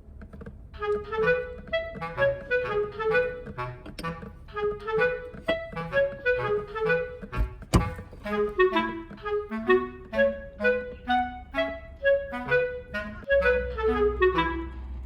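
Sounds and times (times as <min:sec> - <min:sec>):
bouncy woodwind melody: 0:00.6 - 0:15.0.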